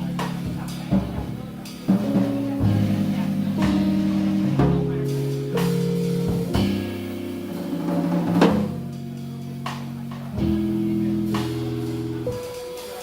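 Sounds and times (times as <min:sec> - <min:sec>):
drum kit with snare and cymbals: 0:00.0 - 0:13.0
piano chords: 0:00.0 - 0:13.0.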